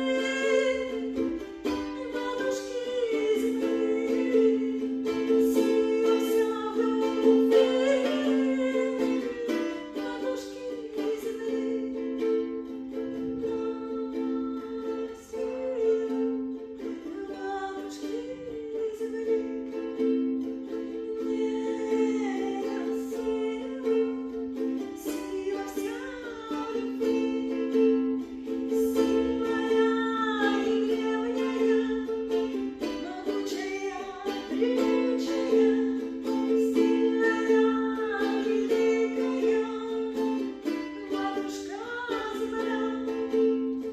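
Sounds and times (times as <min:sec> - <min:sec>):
person singing wordless melody: 0:00.0 - 0:43.9
ukulele strumming chords: 0:00.0 - 0:43.9.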